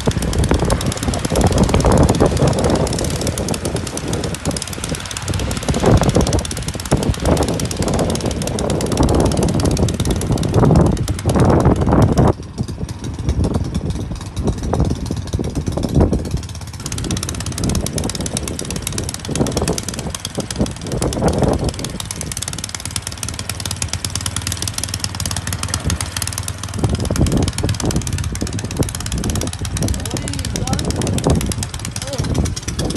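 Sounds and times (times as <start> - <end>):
snow blower engine running: 0.0 - 32.9.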